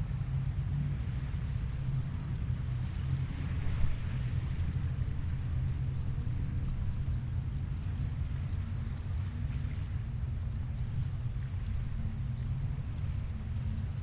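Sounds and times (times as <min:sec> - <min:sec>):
insect chirping: 0:00.0 - 0:14.0
ocean surf rumble: 0:00.0 - 0:14.0.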